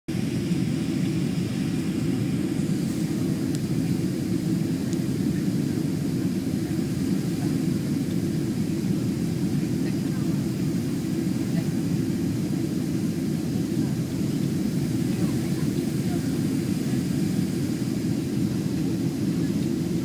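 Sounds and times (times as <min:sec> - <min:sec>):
airliner cabin jet engine rush: 0:00.1 - 0:20.0.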